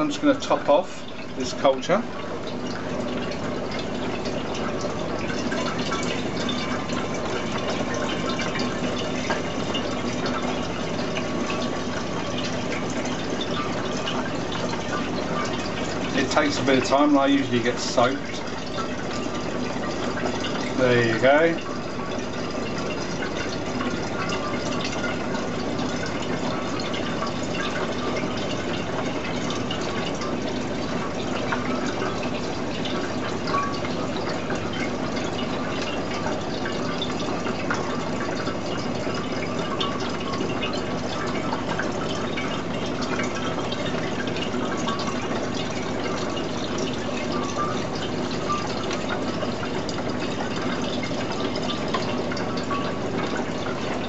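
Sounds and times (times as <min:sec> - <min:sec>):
water trickling into glass jug: 0:00.0 - 0:54.0.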